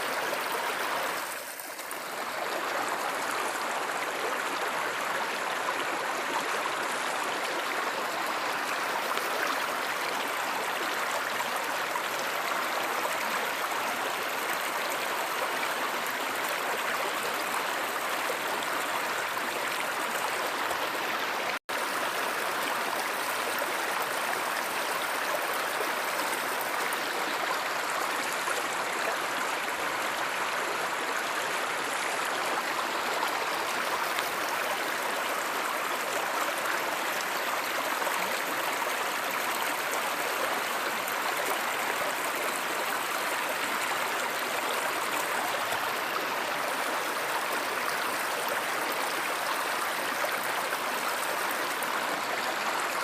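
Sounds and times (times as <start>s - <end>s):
stream rushing and babbling: 0.0s - 53.0s.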